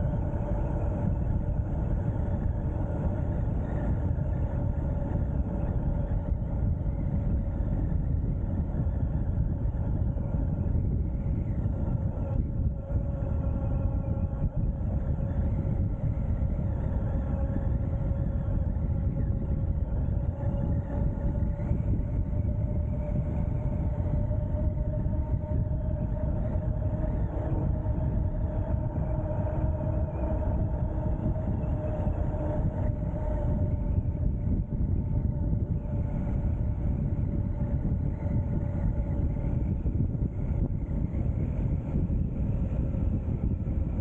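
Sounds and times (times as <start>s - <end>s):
wind rumble on microphone: 0.0s - 44.0s.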